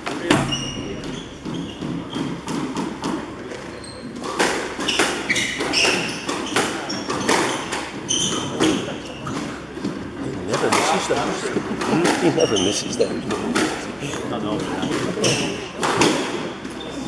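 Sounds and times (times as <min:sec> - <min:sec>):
squash ball knocks: 0:00.0 - 0:03.4, 0:04.2 - 0:12.4, 0:14.6 - 0:16.8
shoes squeaking on floor: 0:00.0 - 0:17.0.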